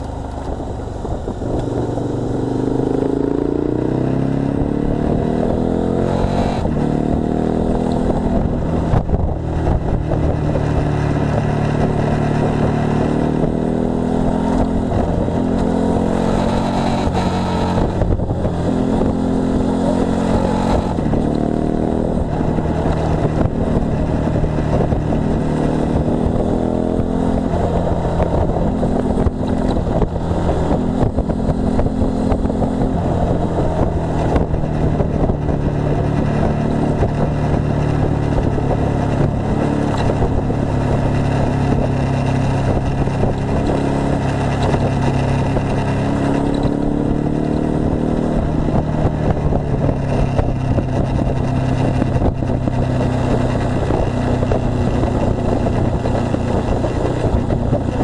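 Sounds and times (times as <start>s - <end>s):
motorcycle engine accelerating: 0.0s - 58.0s
wind rush over microphone: 0.0s - 58.0s.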